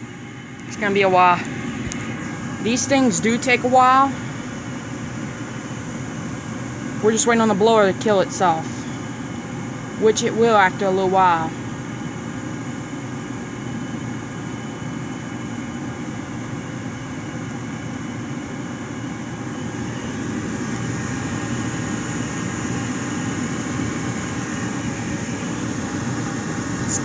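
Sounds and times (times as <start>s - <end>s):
furnace blower running: 0.0s - 27.0s.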